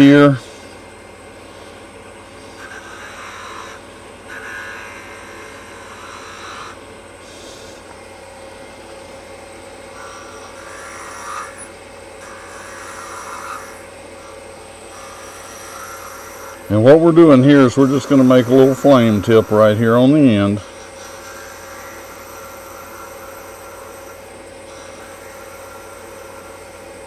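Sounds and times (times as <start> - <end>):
wood lathe running: 0.0 - 27.0
turning tool scraping wood: 1.4 - 8.0, 9.9 - 27.0.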